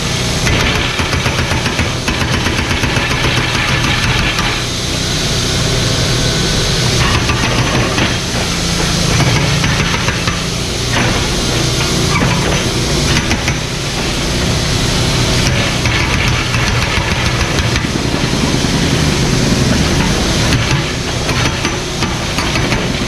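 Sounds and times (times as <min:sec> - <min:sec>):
excavator diesel engine running: 0:00.0 - 0:23.0
noisy hiss: 0:00.0 - 0:23.0.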